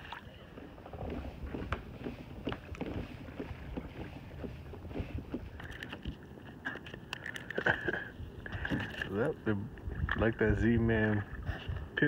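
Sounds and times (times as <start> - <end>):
water lapping against kayak hull: 0.0 - 12.0
wind on microphone: 0.3 - 6.5, 8.1 - 12.0.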